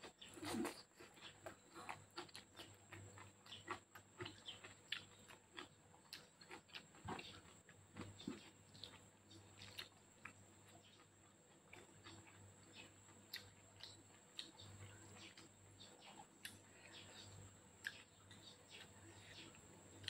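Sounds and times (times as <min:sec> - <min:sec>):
close-up chewing of noodles: 0:00.0 - 0:20.0.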